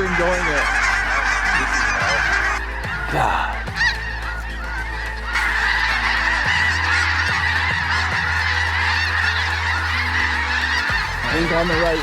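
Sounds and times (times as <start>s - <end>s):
flock of geese honking: 0.0s - 12.0s.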